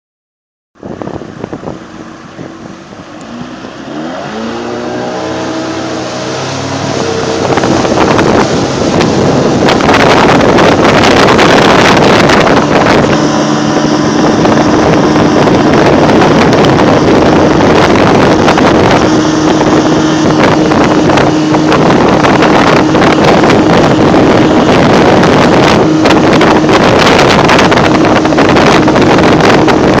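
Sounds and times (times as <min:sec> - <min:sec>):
motorboat engine speeding up: 0:00.8 - 0:30.0
rushing water noise: 0:00.8 - 0:30.0.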